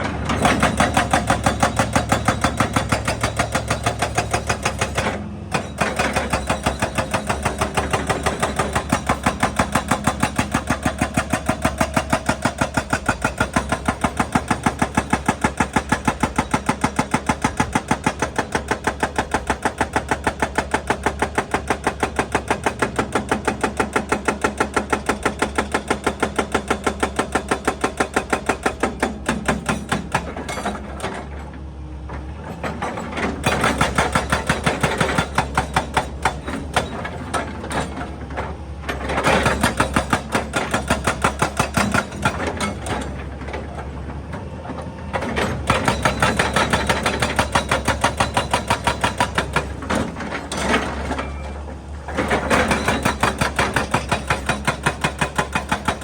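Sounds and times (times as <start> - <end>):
hydraulic breaker hammering rock: 0.0 - 31.4, 32.4 - 44.0, 45.1 - 56.0.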